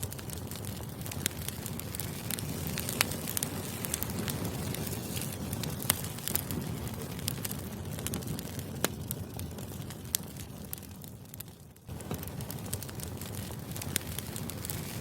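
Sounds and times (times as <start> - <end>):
fire popping and crackling: 0.0 - 15.0
low fire rumble: 0.0 - 15.0.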